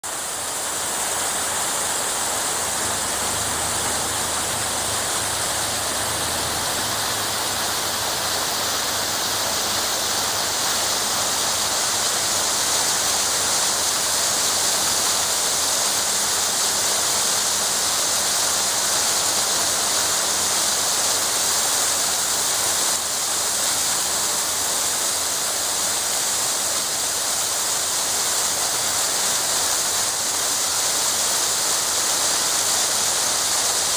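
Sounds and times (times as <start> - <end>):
small waterfall pouring: 0.0 - 33.9.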